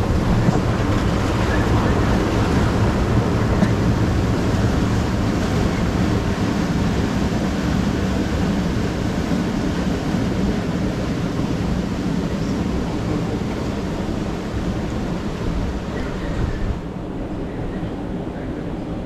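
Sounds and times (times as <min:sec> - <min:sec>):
water churning and splashing: 0:00.0 - 0:16.7.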